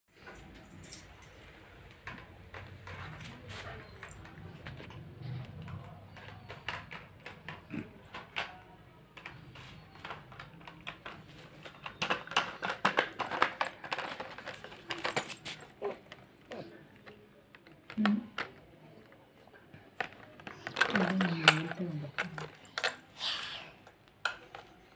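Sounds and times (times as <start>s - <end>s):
plastic toys clicking and knocking: 0.2s - 24.9s.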